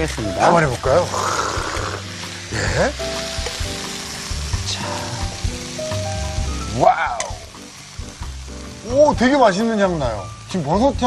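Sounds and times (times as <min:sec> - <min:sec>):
light background music: 0:00.0 - 0:11.0
oil sizzling in frying pan: 0:00.0 - 0:11.0.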